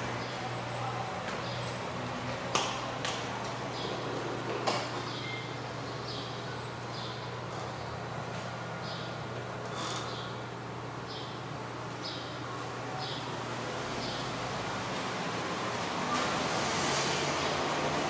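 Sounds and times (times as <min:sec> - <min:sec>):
room hum and hiss: 0:00.0 - 0:18.0.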